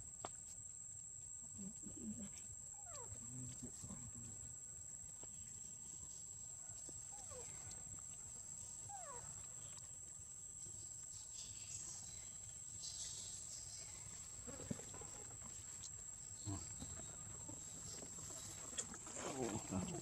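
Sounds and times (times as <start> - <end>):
insect trilling: 1.6 - 4.2, 5.6 - 20.0.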